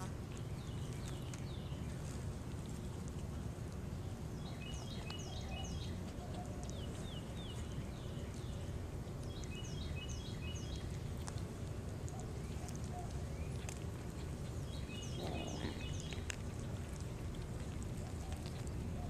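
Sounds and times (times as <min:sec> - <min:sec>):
small bird chirping: 0:00.0 - 0:03.1, 0:03.9 - 0:19.0
low outdoor background rumble: 0:00.0 - 0:19.0.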